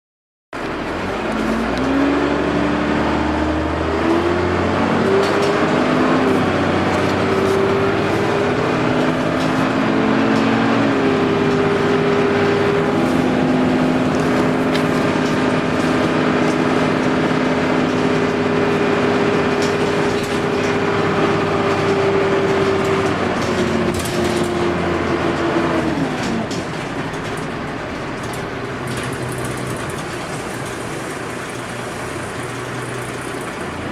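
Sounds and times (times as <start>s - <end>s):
bus drivetrain whine: 0.6s - 33.9s.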